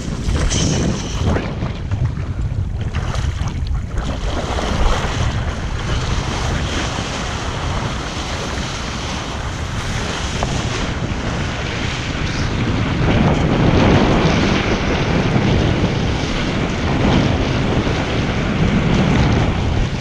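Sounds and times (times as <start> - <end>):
rush of water: 0.0 - 20.0
wind buffeting microphone: 0.0 - 20.0.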